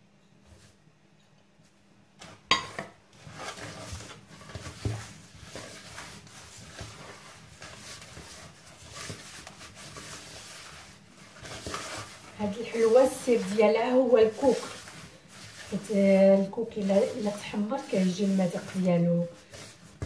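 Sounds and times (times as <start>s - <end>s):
hand rubbing and scraping mixture: 2.2s - 20.0s.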